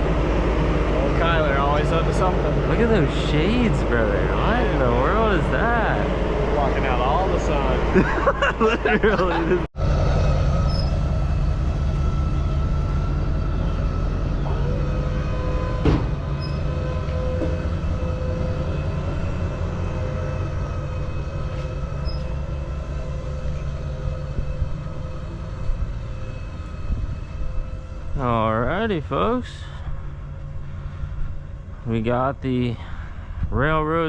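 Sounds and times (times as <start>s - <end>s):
engine droning: 0.0s - 34.0s
steady whine: 0.0s - 34.0s.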